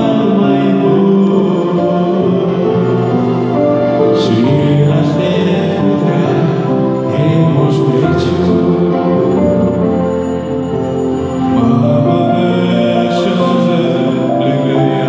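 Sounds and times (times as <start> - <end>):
men singing a carol: 0.0 - 15.0
musical accompaniment: 0.0 - 15.0.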